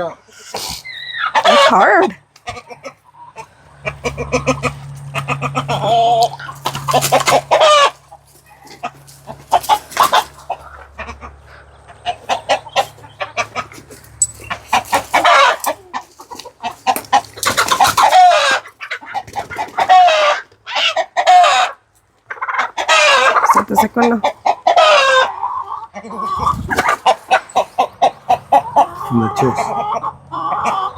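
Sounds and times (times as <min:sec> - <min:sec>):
chickens clucking and squawking: 0:00.0 - 0:30.9.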